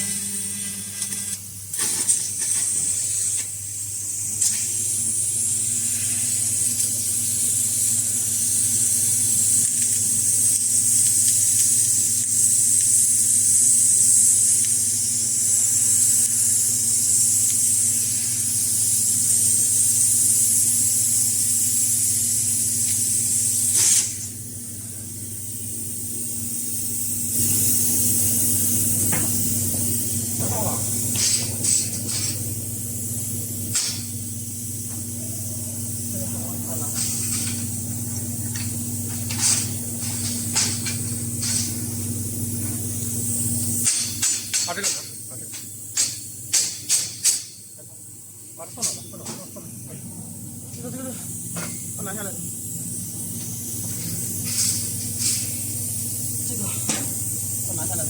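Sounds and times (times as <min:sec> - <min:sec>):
low machine hum: 0:00.0 - 0:46.8, 0:47.4 - 0:58.0
gas hissing through laser cutter: 0:00.0 - 0:58.0.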